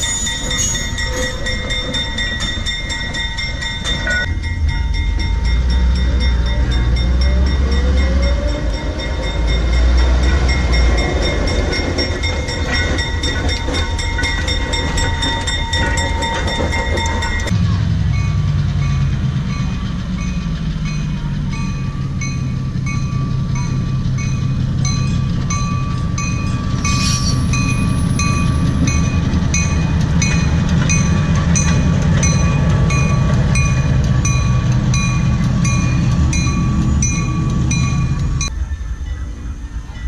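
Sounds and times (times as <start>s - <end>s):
bell ringing: 0.0s - 17.5s, 18.1s - 38.5s
diesel locomotive engine running: 0.0s - 40.0s.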